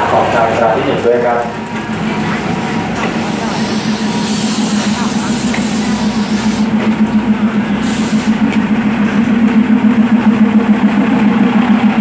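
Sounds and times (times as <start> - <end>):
diesel railcar engine droning: 0.0 - 12.0.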